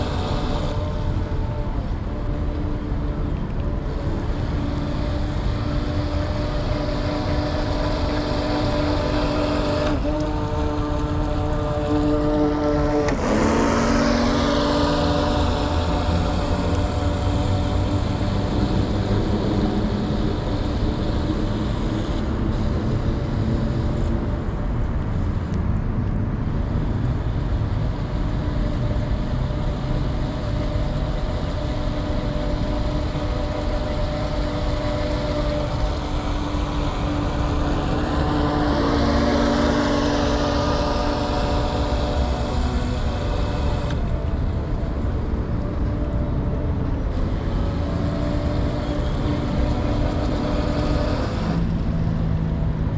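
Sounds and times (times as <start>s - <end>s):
electric motor whine: 0.0s - 52.9s.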